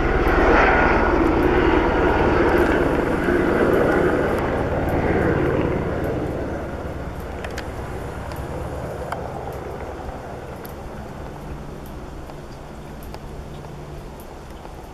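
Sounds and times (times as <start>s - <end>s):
helicopter flying past: 0.0s - 14.9s
faint clicks: 2.4s - 14.9s.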